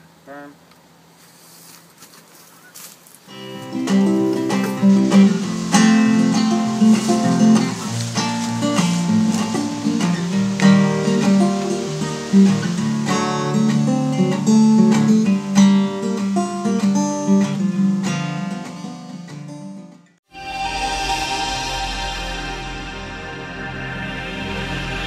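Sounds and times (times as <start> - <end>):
acoustic guitar music: 3.3 - 25.0.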